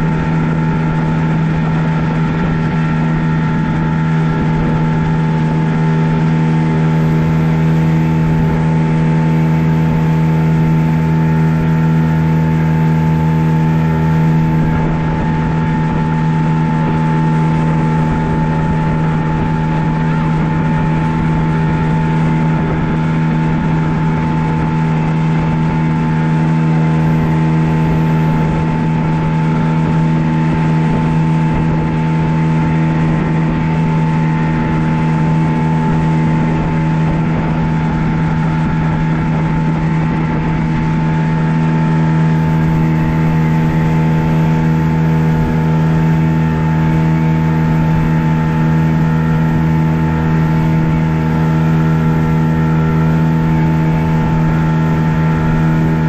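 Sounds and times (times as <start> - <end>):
outboard motor droning: 0.0 - 56.0.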